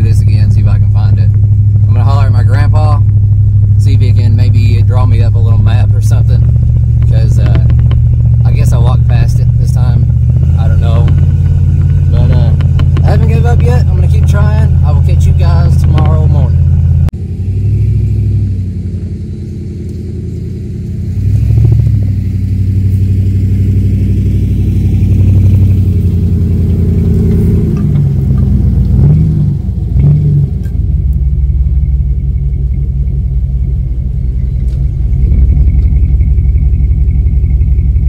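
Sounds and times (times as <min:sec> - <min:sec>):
pickup truck engine running: 0:00.0 - 0:38.0.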